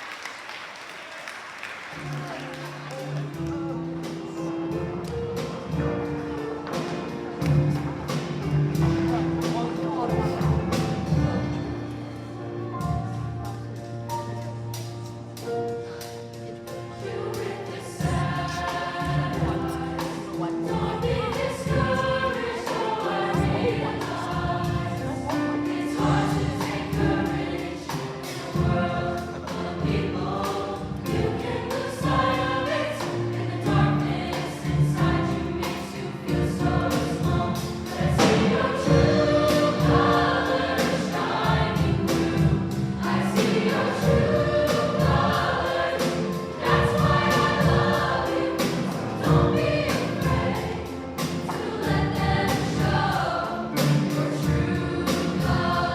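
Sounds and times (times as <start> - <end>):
choir singing: 1.9 - 55.9
instrumental accompaniment: 1.9 - 55.9.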